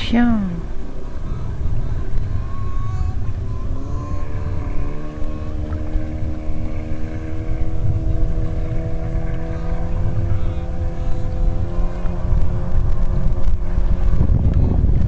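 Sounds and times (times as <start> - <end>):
engine droning: 0.0 - 15.0
heavy low rumble: 0.0 - 15.0.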